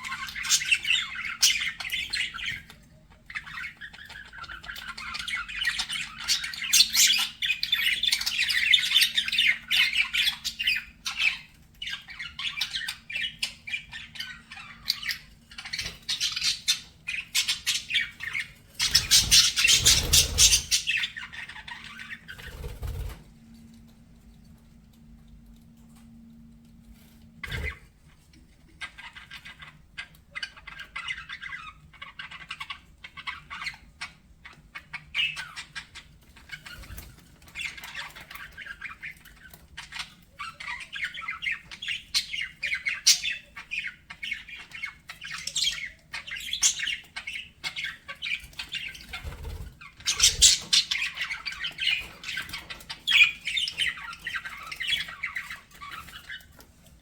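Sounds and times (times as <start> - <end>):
budgerigars chattering: 0.0 - 23.1, 28.8 - 56.6.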